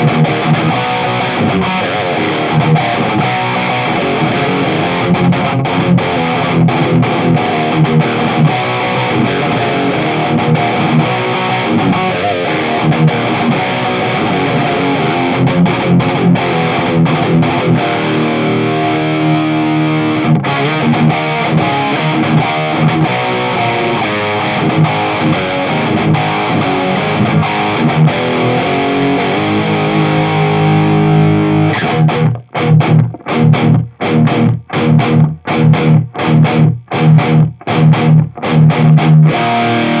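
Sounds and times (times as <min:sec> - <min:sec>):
distorted electric guitar riffs: 0:00.0 - 0:40.0.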